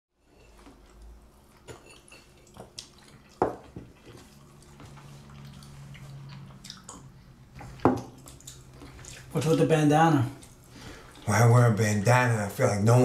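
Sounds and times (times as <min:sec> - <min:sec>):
low steady hum: 0:00.2 - 0:13.0.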